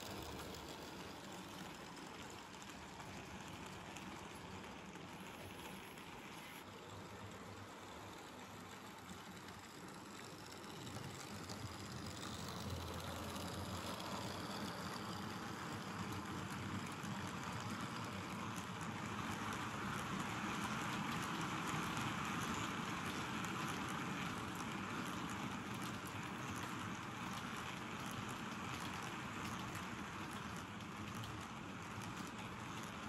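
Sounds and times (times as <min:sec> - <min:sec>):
model train wheels on rails: 0:00.0 - 0:33.0.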